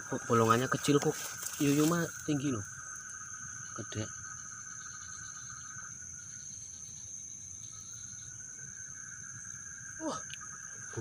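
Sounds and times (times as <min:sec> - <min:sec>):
crickets and night insects chirring: 0:00.0 - 0:11.0.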